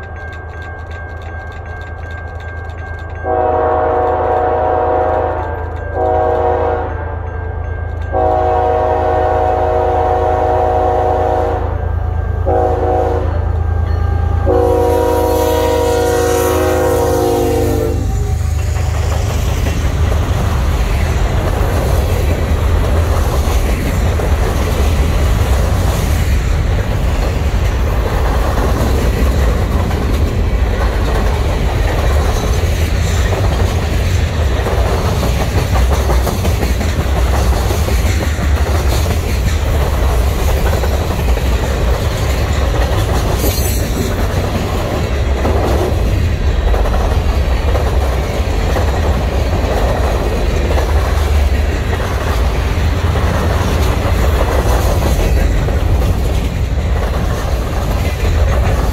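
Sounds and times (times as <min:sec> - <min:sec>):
wheels clacking rhythmically: 0:00.0 - 0:09.6, 0:17.9 - 0:58.9.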